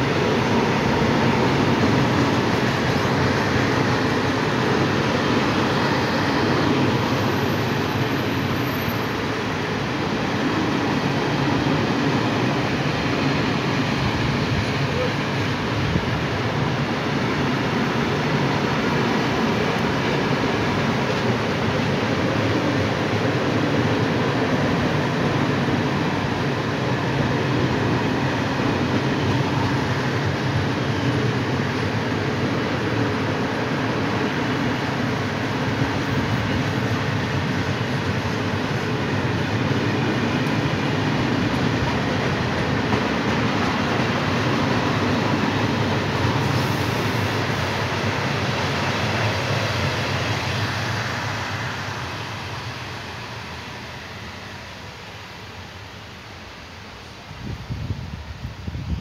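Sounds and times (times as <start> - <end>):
train wheels on track: 0.0 - 59.0.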